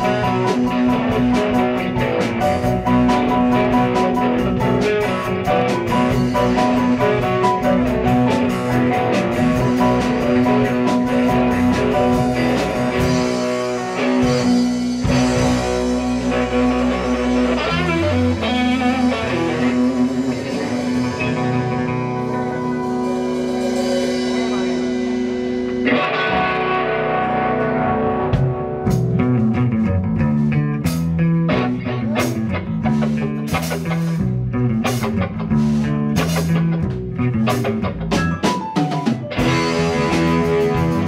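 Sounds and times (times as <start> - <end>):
drum kit and cymbals: 0.0 - 26.7, 28.3 - 41.0
bass guitar: 0.0 - 41.0
electric guitar: 0.0 - 41.0
keyboard: 0.0 - 41.0.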